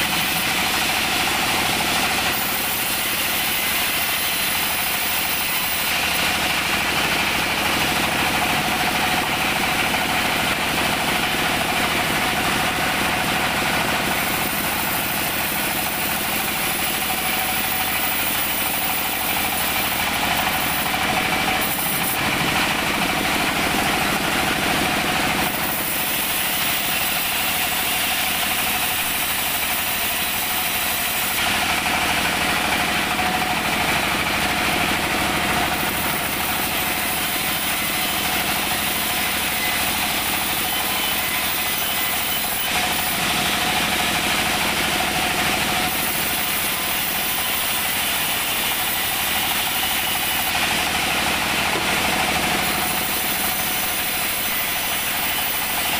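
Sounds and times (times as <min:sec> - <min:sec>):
sawmill machine drone: 0:00.0 - 0:55.9.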